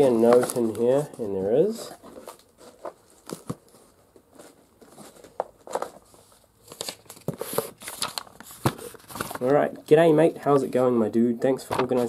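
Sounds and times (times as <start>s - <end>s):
paper rustling and crinkling: 0.0s - 10.0s, 11.6s - 12.0s.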